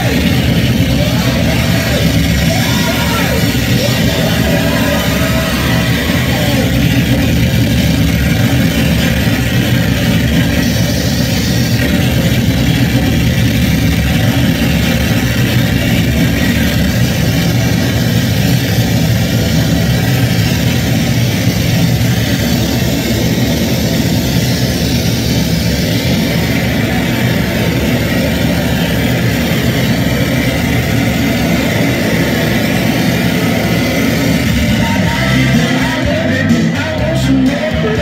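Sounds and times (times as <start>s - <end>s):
harsh distorted noise music: 0.0s - 38.0s
heavy low rumble: 0.0s - 38.0s.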